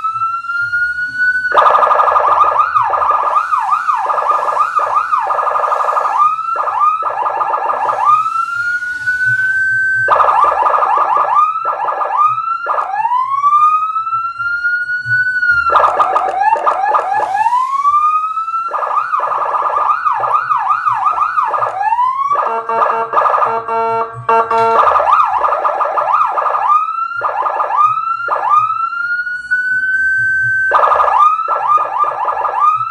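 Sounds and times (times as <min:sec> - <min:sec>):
electronic siren wailing: 0:00.0 - 0:32.9.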